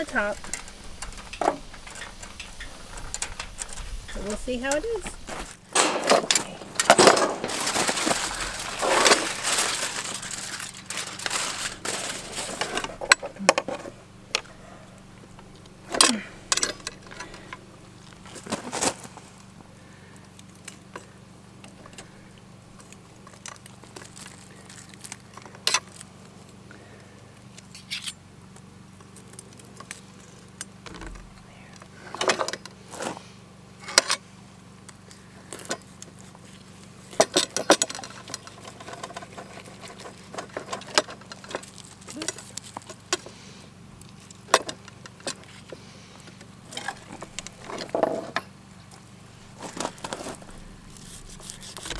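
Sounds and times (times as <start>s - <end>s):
aluminium foil crinkling: 0.0s - 32.1s, 34.8s - 43.2s, 46.5s - 48.1s, 48.9s - 51.9s.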